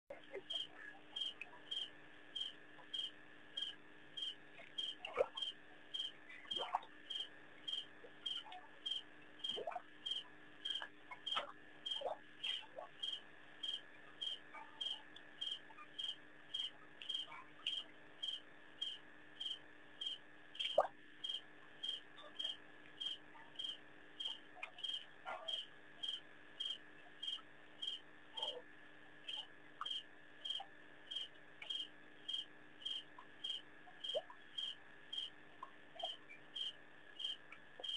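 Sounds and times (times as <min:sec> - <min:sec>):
cricket chirping: 0:00.1 - 0:37.9
high insect drone: 0:00.4 - 0:28.6, 0:29.3 - 0:35.4, 0:36.0 - 0:37.9.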